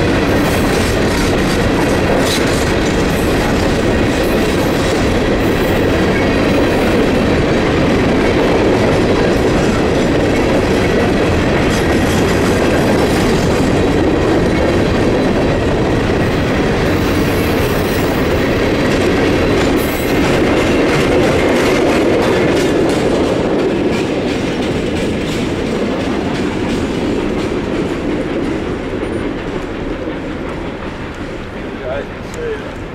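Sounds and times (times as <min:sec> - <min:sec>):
freight train wheels rumbling on rail: 0:00.0 - 0:32.9
rhythmic clicking over rail joints: 0:00.0 - 0:32.9.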